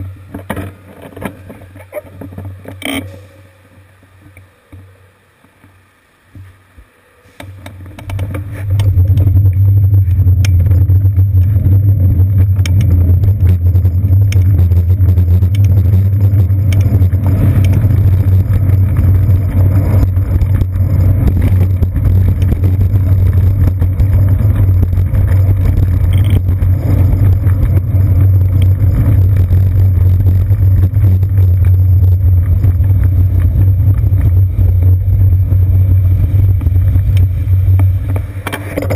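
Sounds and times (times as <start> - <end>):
bicycle road vibration rumble: 0.0 - 38.9
wind: 0.0 - 38.9.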